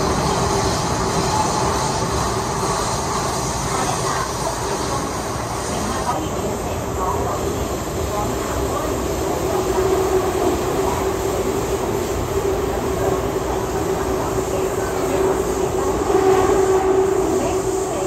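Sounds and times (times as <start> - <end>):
steady train hum: 0.0 - 18.0
train wheels rumbling: 0.0 - 18.0.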